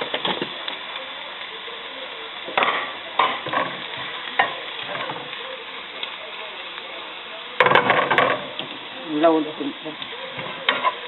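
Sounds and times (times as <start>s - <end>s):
garlic sizzling in hot oil: 0.0s - 11.0s.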